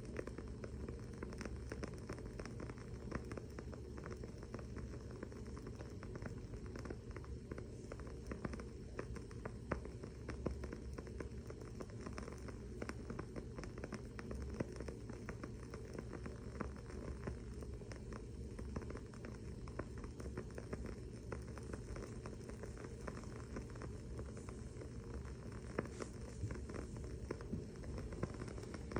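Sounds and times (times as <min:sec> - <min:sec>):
candle crackling: 0:00.0 - 0:28.9
low background hum: 0:00.0 - 0:28.9.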